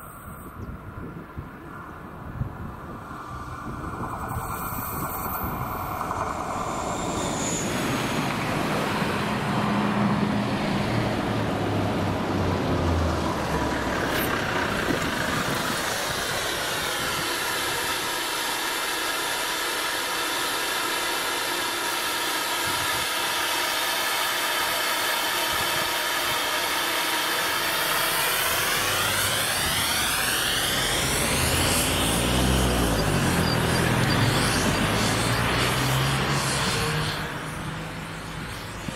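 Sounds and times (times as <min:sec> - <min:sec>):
diesel truck idling and pulling away: 0:01.2 - 0:38.9.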